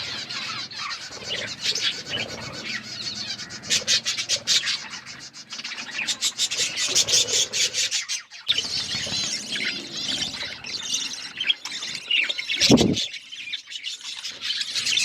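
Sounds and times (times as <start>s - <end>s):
parakeets chirping and squawking: 0.0s - 15.0s.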